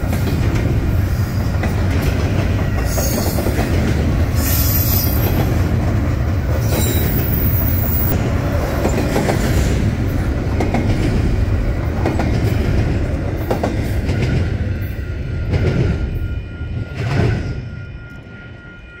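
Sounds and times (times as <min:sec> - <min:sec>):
wheels clacking on rail: 0:00.0 - 0:18.6
freight train wheels rumbling: 0:00.0 - 0:19.0.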